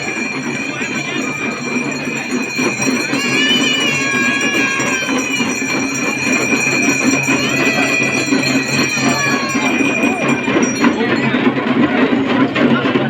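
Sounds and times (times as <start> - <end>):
hand drums rattling: 0.0 - 11.5
steady high ringing: 0.0 - 12.6.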